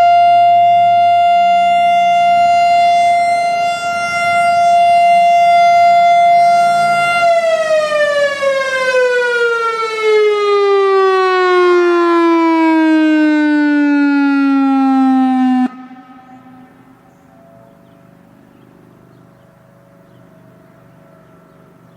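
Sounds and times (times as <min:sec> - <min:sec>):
warning siren winding down: 0:00.0 - 0:21.9.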